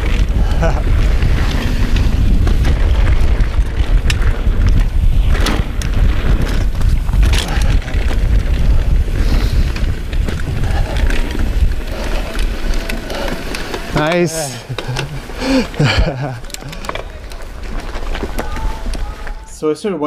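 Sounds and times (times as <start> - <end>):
wind buffeting microphone: 0.0 - 19.5
bike clicks and rattles: 0.0 - 19.6
tyres rumbling on dirt: 0.0 - 19.6.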